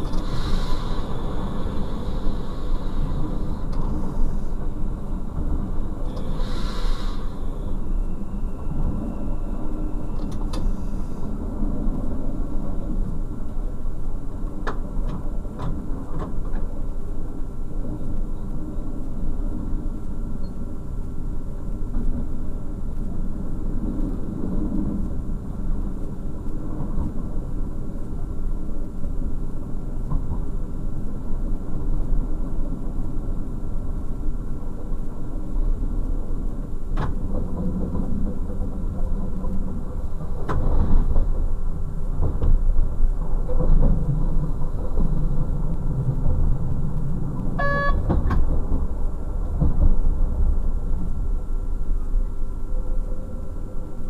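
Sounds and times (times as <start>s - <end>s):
railcar engine and wheels rumbling: 0.0s - 54.0s.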